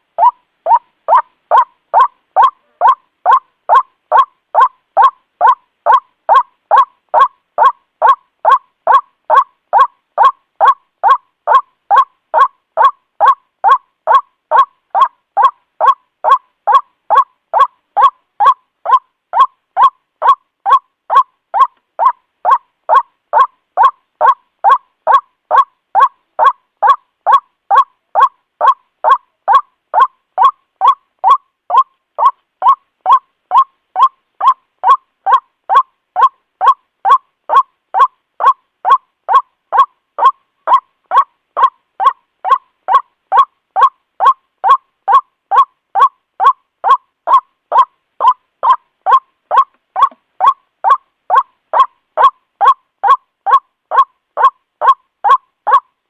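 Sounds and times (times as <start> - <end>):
waterhen call: 0.0 - 55.9.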